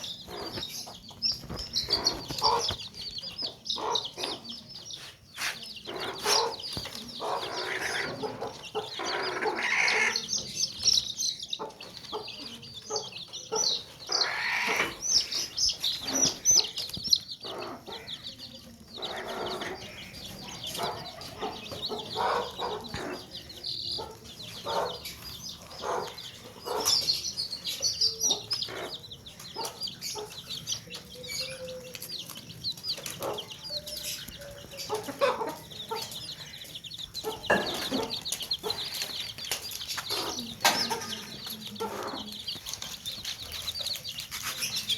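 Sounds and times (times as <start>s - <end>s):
baby chicks peeping: 0.0s - 44.9s
chicken clucks: 0.0s - 44.9s.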